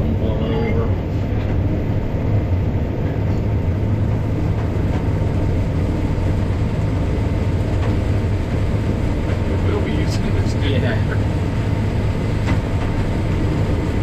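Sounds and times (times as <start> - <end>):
combine harvester drone: 0.0 - 14.0.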